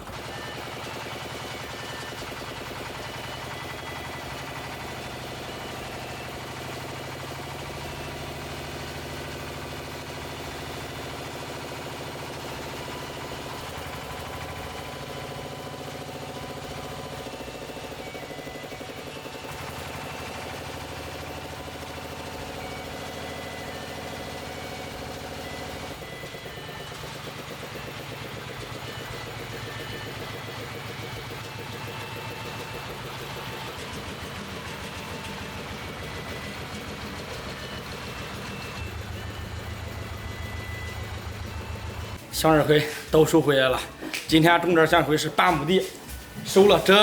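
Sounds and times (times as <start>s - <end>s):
vehicle engine running: 0.0s - 47.0s.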